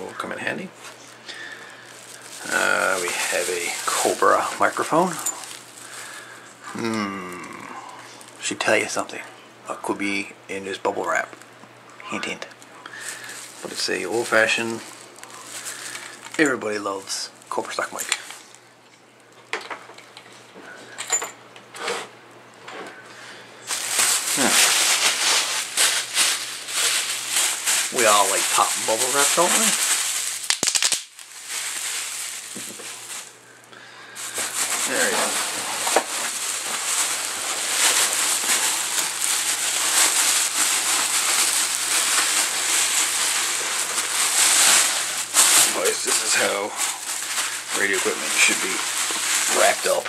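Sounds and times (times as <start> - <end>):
bubble wrap crackling: 0.0 - 9.2, 12.2 - 18.7, 23.6 - 50.0.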